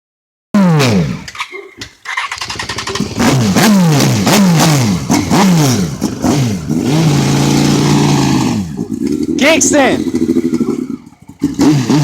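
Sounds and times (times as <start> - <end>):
motorcycle engine revving: 0.6 - 12.0.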